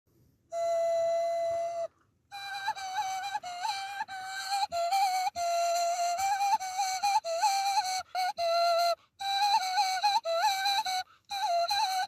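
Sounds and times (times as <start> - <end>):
person whistling a melody: 0.5 - 12.0.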